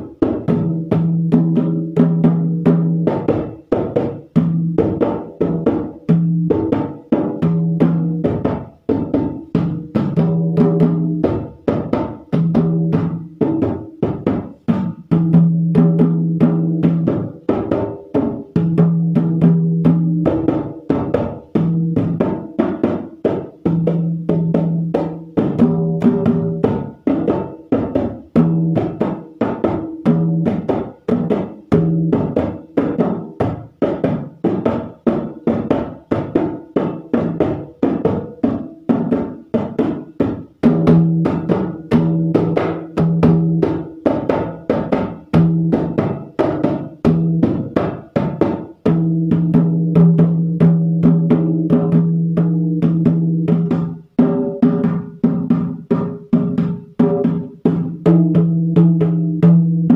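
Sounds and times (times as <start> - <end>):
hand drum fast rhythm: 0.0 - 59.9.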